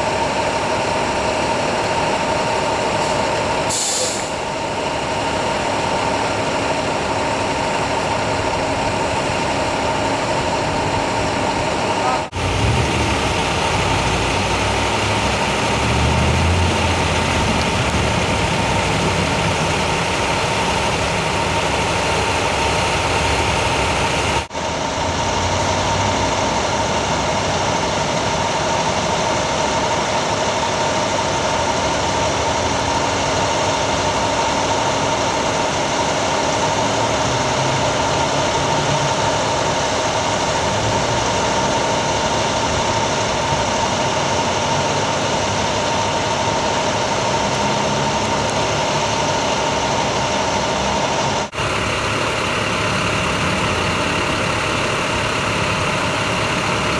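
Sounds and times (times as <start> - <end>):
heavy vehicle engines idling: 0.0 - 56.9.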